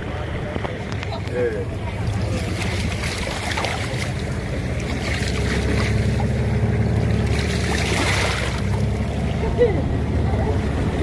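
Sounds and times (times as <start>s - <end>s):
water splashing against hull: 0.0s - 11.0s.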